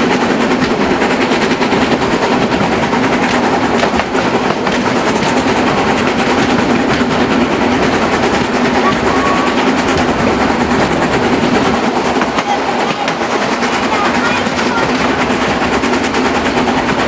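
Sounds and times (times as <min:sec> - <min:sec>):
steam locomotive working: 0:00.0 - 0:17.0
train wheels rushing on rail: 0:00.0 - 0:17.0.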